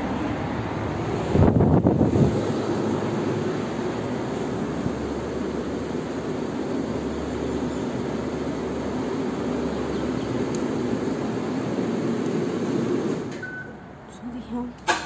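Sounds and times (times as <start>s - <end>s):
station ambience low roar: 0.0s - 15.0s.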